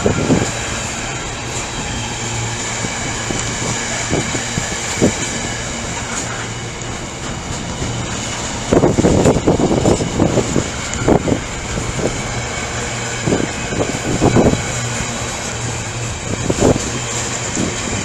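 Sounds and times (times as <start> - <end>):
heavy rumbling surges: 0.0 - 18.0
train low drone: 0.0 - 18.0.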